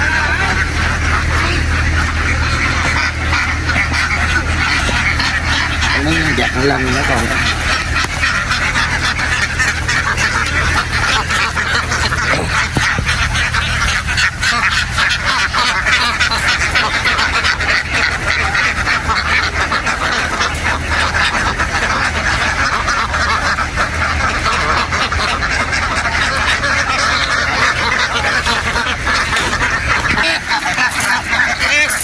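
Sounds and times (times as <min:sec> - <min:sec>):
flock of ducks quacking: 0:00.0 - 0:32.0
low steady hum: 0:00.0 - 0:32.0.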